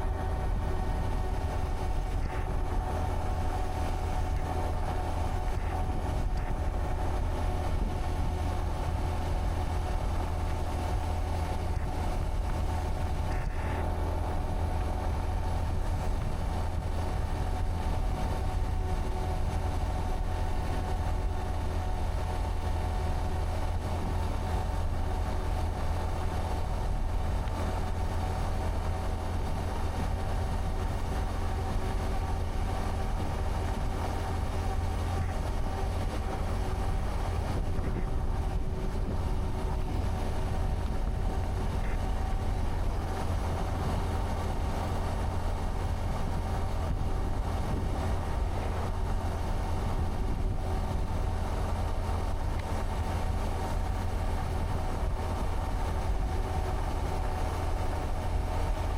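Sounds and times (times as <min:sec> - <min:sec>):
wind and road rumble: 0:00.0 - 0:58.9.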